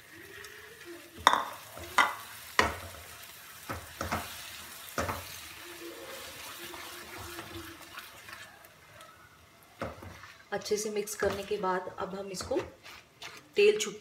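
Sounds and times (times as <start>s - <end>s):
tomato paste sizzling in a pan: 0.0s - 13.9s
spatula stirring: 1.2s - 8.8s, 9.8s - 13.5s.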